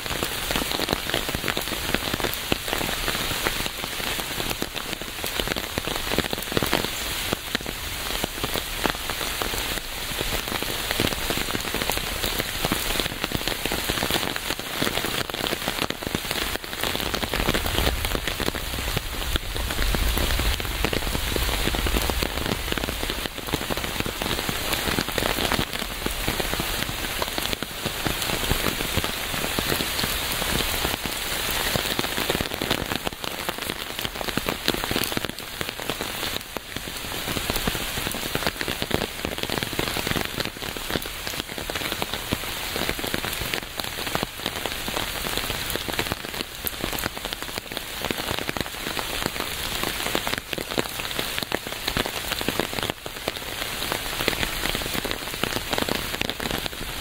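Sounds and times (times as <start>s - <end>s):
rain pattering on surface: 0.0s - 57.0s.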